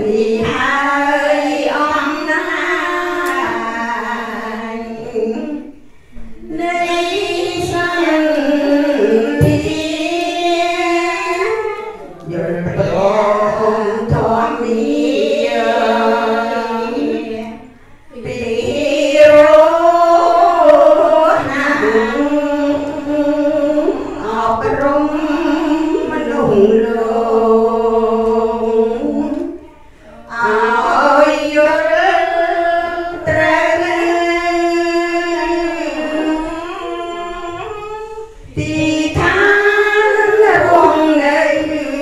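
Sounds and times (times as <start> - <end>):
women chanting in unison: 0.0 - 42.0.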